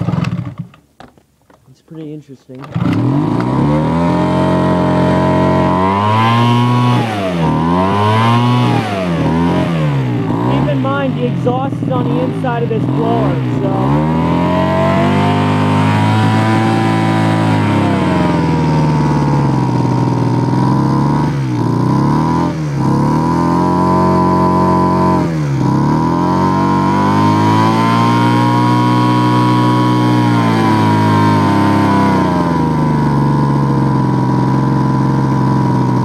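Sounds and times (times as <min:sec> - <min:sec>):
small blower engine running: 0:00.0 - 0:00.8, 0:02.5 - 0:36.0.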